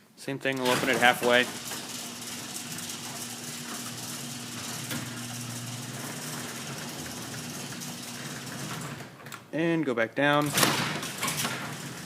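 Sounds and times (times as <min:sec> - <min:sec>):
garage door motor humming: 0:00.5 - 0:09.4, 0:10.5 - 0:12.0.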